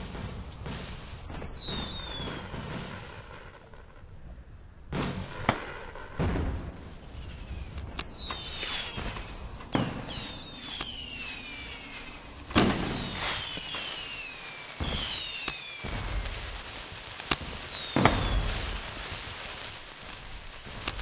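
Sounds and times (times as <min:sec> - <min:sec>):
falling firework whistles: 0:00.0 - 0:03.8, 0:05.0 - 0:21.0
fireworks bangs: 0:00.0 - 0:21.0.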